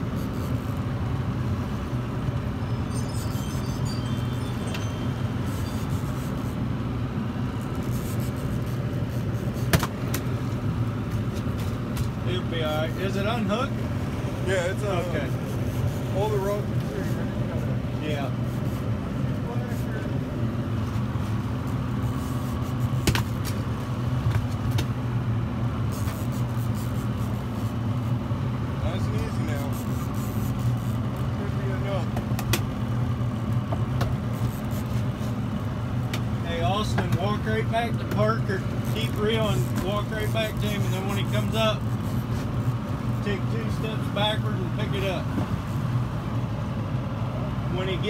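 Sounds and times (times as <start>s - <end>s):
boat motor humming: 0.0s - 48.0s.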